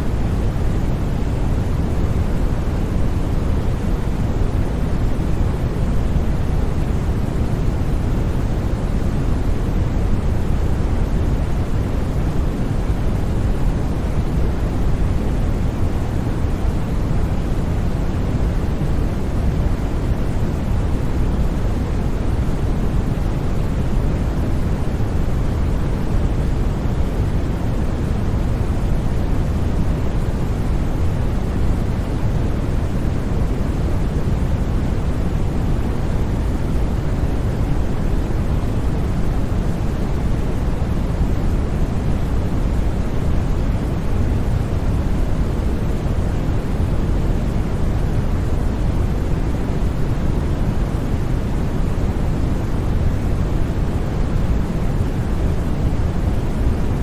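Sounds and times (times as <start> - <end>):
steady low hiss noise: 0.0 - 57.0.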